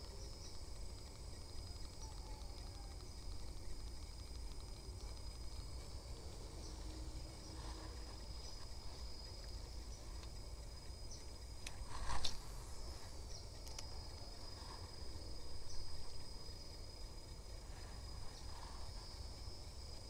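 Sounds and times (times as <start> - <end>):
insects chirping: 0.0 - 20.0
low background rumble: 0.0 - 20.0.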